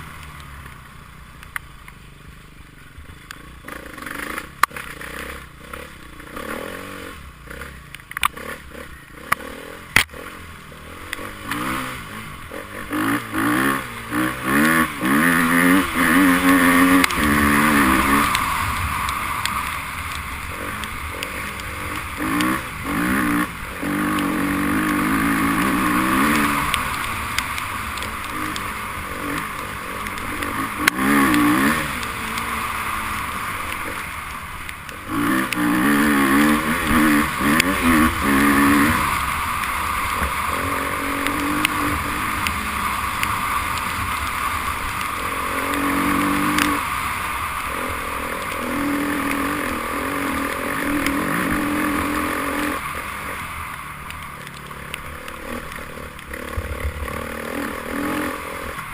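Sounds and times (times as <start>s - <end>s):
background hiss: 0.0s - 58.9s
motorcycle engines revving: 0.0s - 58.9s.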